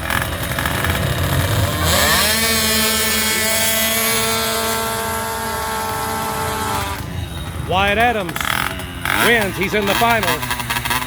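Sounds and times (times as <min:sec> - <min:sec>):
racing engines at full throttle: 0:00.0 - 0:11.0.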